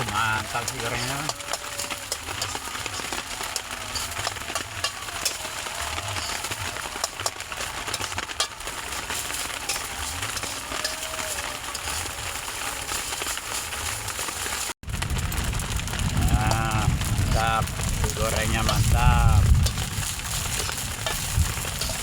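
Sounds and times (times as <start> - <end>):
campfire crackling: 0.0 - 22.0
rice sizzling in a pan: 0.0 - 22.0.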